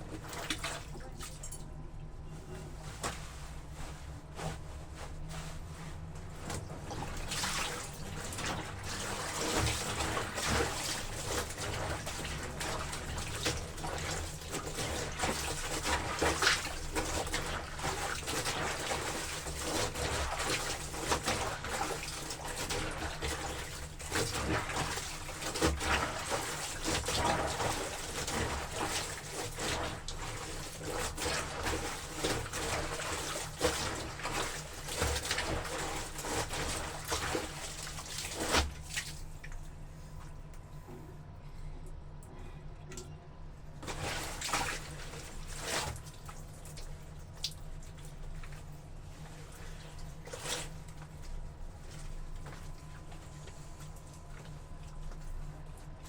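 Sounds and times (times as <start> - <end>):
water sloshing in a tub: 0.0 - 56.0.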